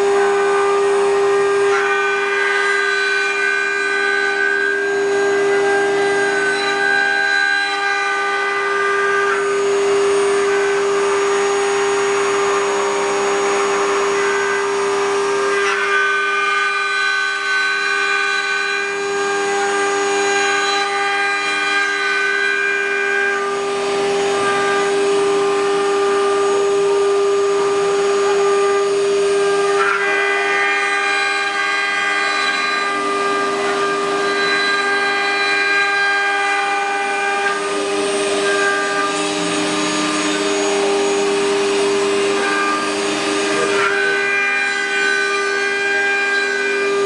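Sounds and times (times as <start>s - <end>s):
router spindle whining: 0.0s - 47.0s.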